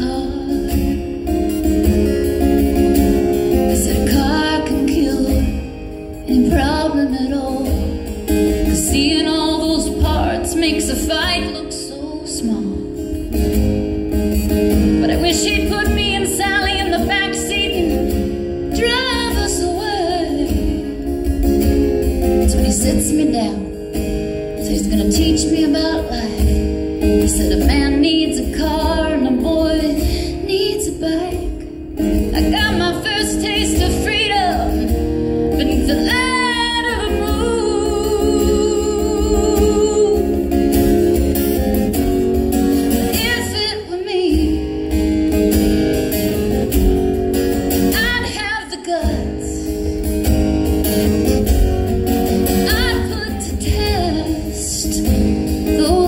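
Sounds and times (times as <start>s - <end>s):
woman singing: 0.0s - 13.0s, 14.8s - 24.0s, 24.6s - 41.2s, 42.7s - 45.0s, 47.6s - 50.1s, 52.3s - 56.0s
strummed acoustic guitar: 0.0s - 56.0s.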